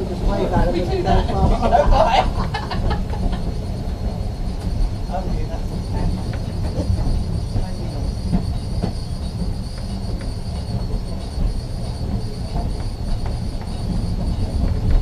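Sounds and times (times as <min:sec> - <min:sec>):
tram wheels rumbling: 0:00.0 - 0:15.0.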